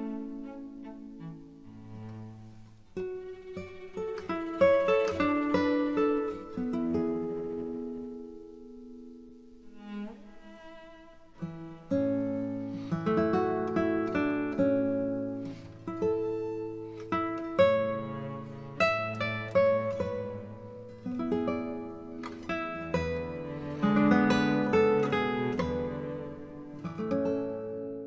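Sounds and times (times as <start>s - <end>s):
acoustic guitar slow melody: 0.0s - 28.0s.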